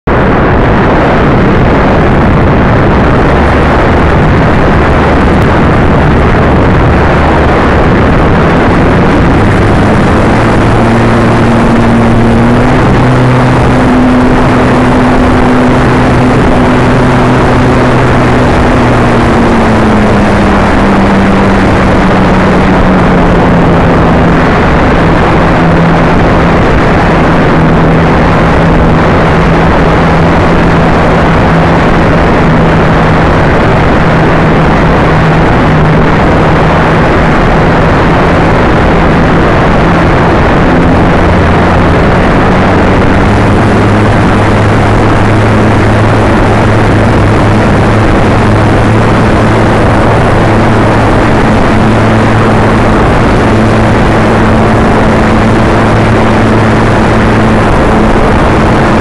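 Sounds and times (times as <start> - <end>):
low motor hum: 0.0 - 59.0
wind and propeller rush: 0.0 - 59.0.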